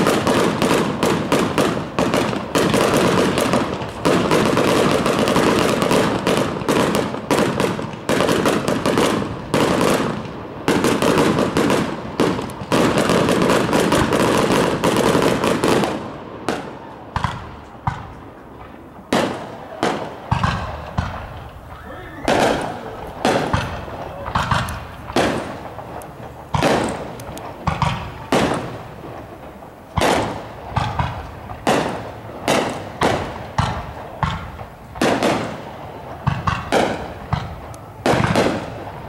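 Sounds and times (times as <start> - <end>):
fireworks bangs and pops: 0.0 - 39.0.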